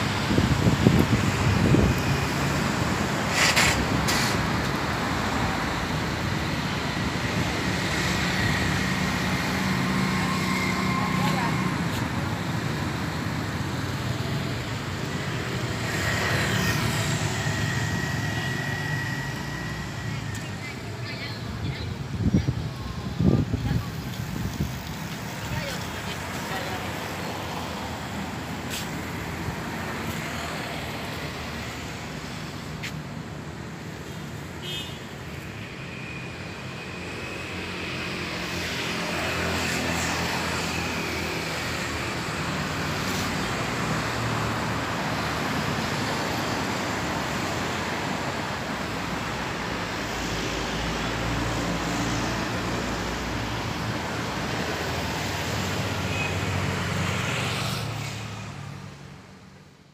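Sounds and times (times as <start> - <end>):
vehicles passing on road: 0.0 - 59.9.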